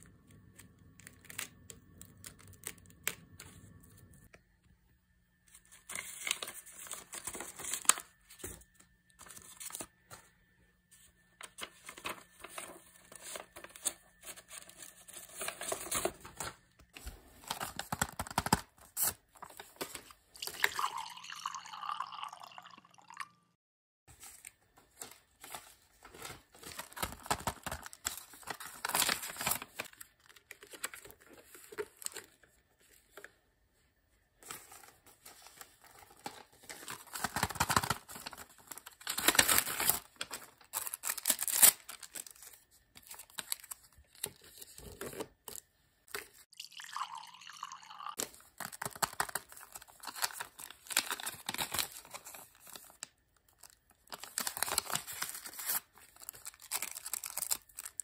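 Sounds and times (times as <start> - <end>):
paper crinkling and rustling: 5.5 - 20.2, 24.1 - 46.5, 48.2 - 58.0.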